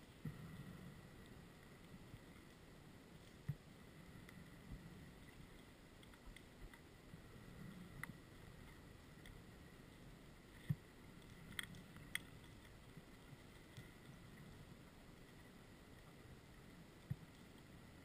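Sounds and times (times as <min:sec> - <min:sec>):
small clicks underwater: 0:00.1 - 0:18.0.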